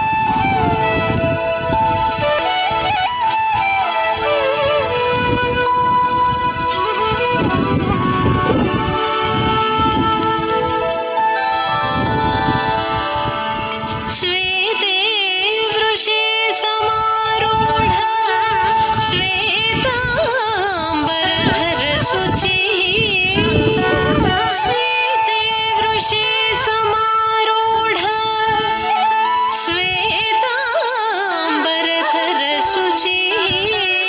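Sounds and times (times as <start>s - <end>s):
high voice singing: 0.0s - 34.0s.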